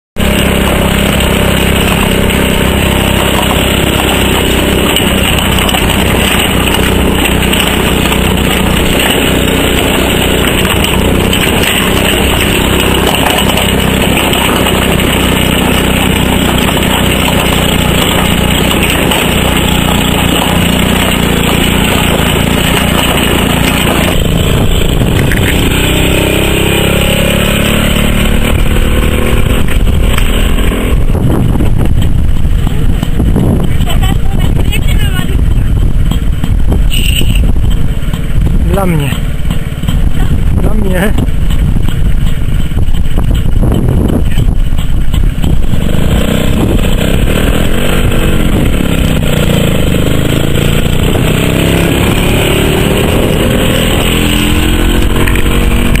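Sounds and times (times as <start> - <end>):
walking tractor engine running: 0.2 - 56.0.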